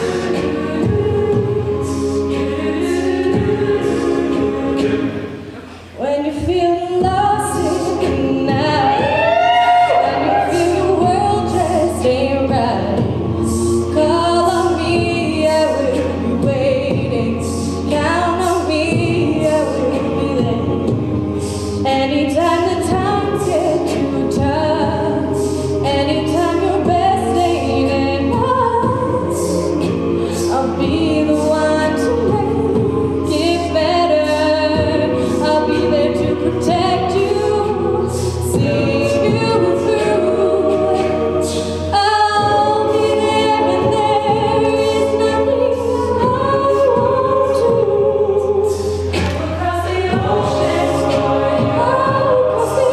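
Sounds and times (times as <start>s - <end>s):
a cappella group singing: 0.0s - 52.9s
vocal percussion beat: 0.0s - 52.9s.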